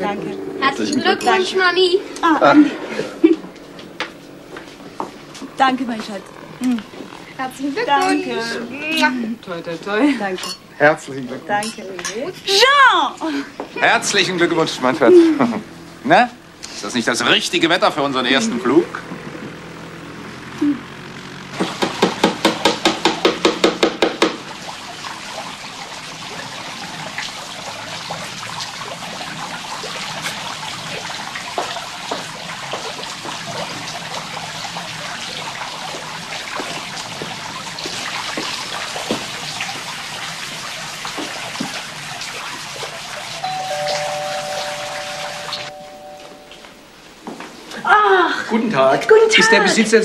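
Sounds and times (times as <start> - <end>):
fountain water splashing: 4.6 - 46.6.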